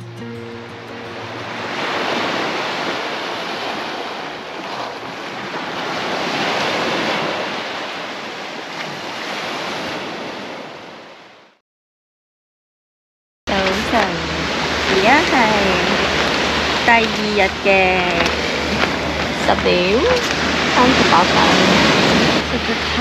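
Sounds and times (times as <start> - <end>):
sea waves breaking on beach: 0.9 - 11.6, 13.5 - 23.0.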